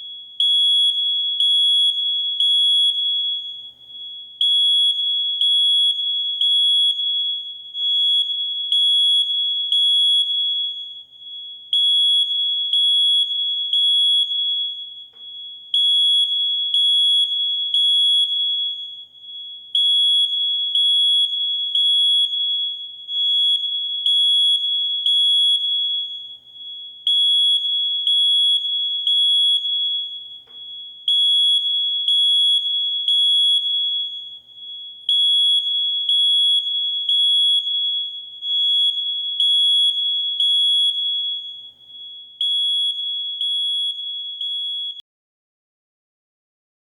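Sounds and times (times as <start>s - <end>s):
smoke alarm beeping: 0.0s - 45.0s.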